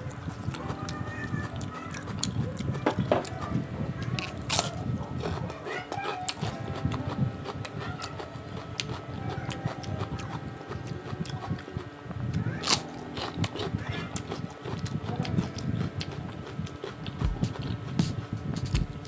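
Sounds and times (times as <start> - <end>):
man chewing food: 0.0 - 3.5, 4.2 - 19.0.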